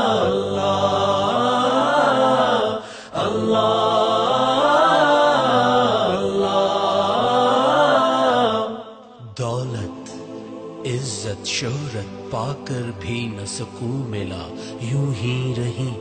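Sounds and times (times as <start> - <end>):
voices chanting devotional song: 0.0 - 16.0.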